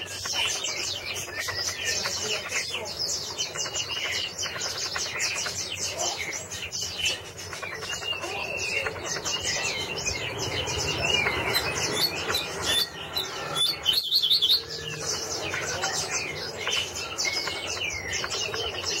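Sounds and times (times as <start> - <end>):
cage bird warbling song: 0.0 - 19.0.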